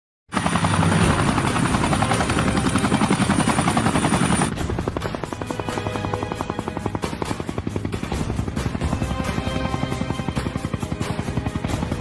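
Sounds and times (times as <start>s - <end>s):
helicopter rotor chopping: 0.3s - 12.0s.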